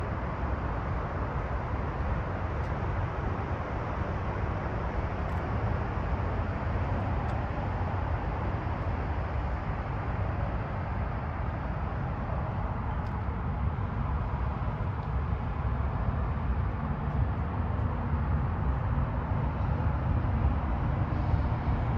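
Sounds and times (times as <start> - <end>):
engine running steadily: 0.0 - 21.9.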